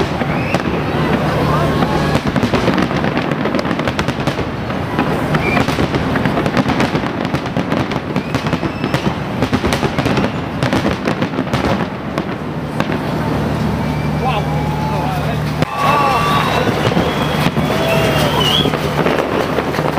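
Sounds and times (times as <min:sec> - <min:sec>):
fireworks bursting and crackling: 0:00.0 - 0:19.9.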